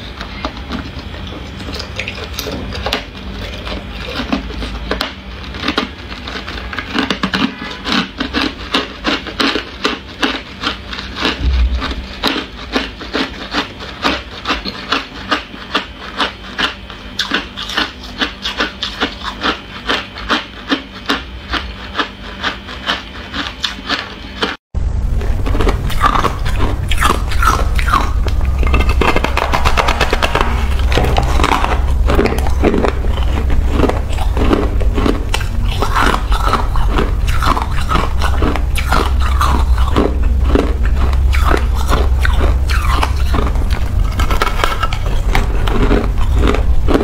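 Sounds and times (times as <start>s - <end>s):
ice being chewed: 0.0s - 47.0s.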